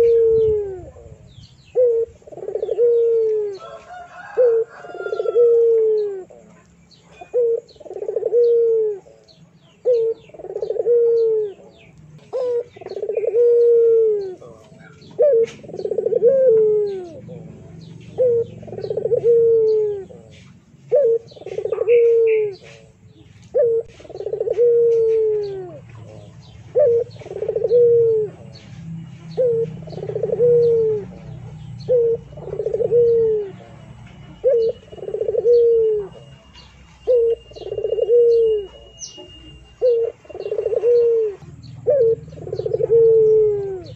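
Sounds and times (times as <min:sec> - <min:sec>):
pigeon cooing: 0:00.0 - 0:43.9
small birds chirping: 0:00.0 - 0:43.9.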